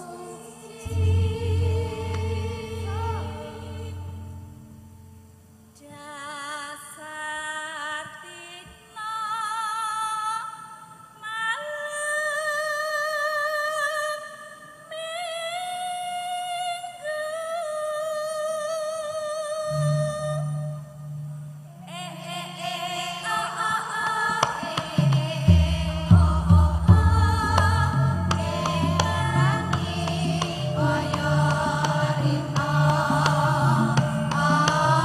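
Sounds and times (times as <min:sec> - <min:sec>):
person singing with vibrato: 0:00.0 - 0:05.0, 0:05.8 - 0:35.0.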